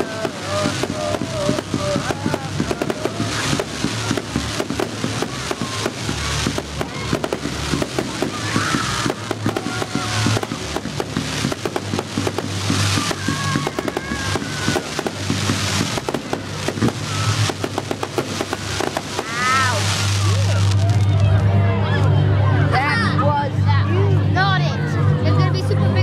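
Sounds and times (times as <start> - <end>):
fireworks bangs: 0.0 - 21.2
fireworks crackling: 0.0 - 21.4.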